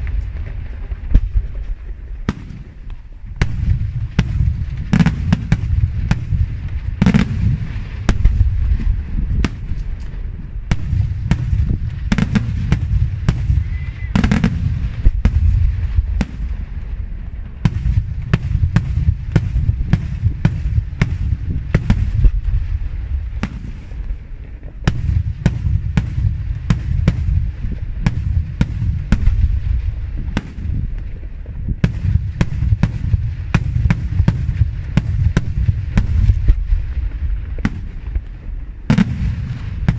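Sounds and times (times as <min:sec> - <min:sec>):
fireworks bangs: 0:00.0 - 0:39.9
low rumble: 0:00.0 - 0:39.9.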